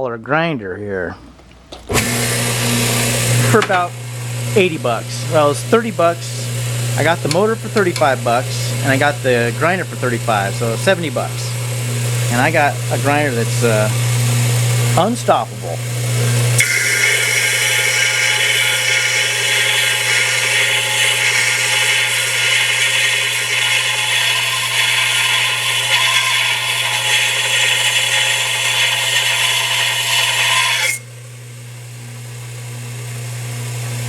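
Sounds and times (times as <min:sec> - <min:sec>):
motor hum: 0:01.1 - 0:34.0
belt grinder grinding: 0:01.9 - 0:31.1.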